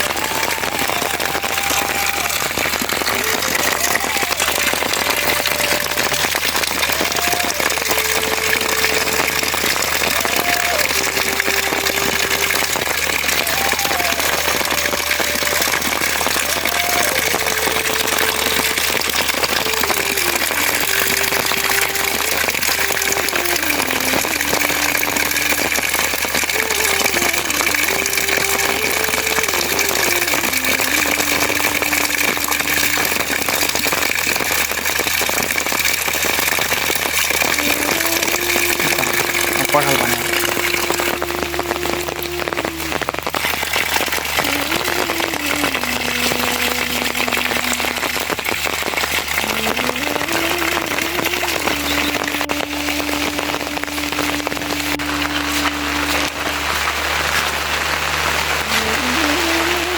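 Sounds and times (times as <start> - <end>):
heavy rain hissing: 0.0 - 59.9
sliding single-voice melody: 0.0 - 59.9.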